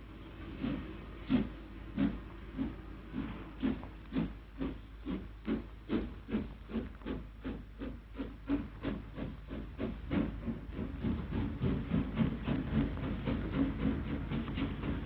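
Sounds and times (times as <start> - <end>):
steam hiss: 0.0 - 15.0
steam locomotive exhaust chuffs: 0.0 - 15.0.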